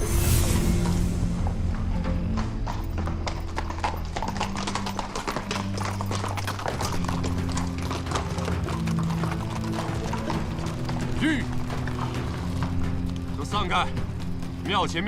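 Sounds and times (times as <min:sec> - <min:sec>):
horse hooves clattering: 0:00.0 - 0:15.0
low background music: 0:00.0 - 0:15.0.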